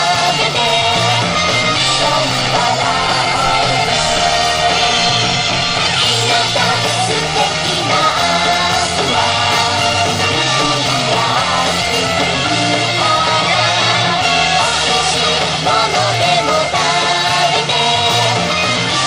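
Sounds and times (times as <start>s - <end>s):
upbeat pop song with vocals: 0.0s - 19.0s.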